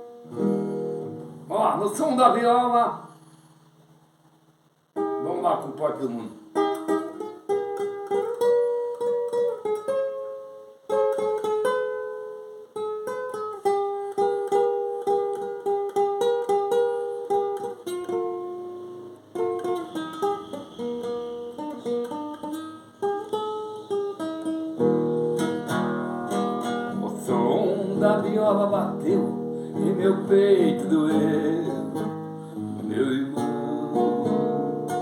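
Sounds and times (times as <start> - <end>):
plucked folk guitar melody: 0.0 - 35.0.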